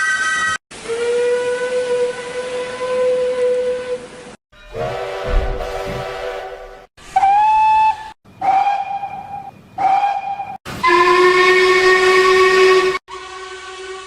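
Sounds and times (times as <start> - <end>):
train whistle blasts: 0.7 - 14.0.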